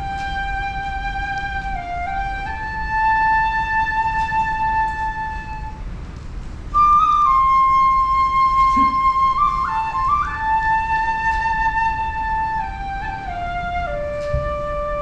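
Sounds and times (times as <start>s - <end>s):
bamboo flute slow melody: 0.0s - 6.0s, 6.7s - 15.0s.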